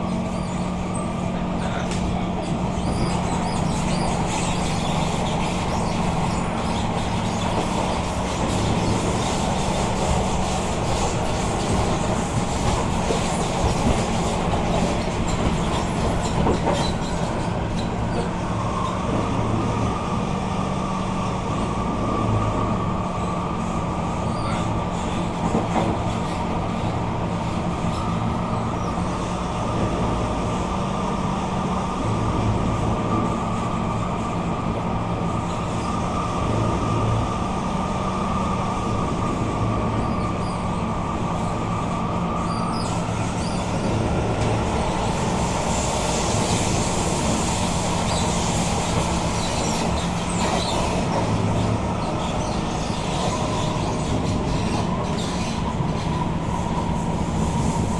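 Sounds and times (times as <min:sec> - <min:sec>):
metro train wheel noise: 0:00.0 - 0:57.9.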